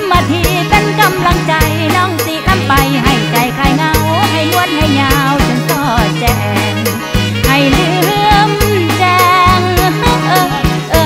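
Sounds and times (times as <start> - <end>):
steady bass: 0.0 - 11.0.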